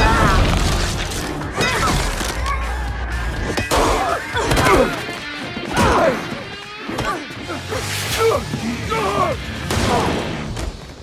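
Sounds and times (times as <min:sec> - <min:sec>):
film music: 0:00.0 - 0:11.0.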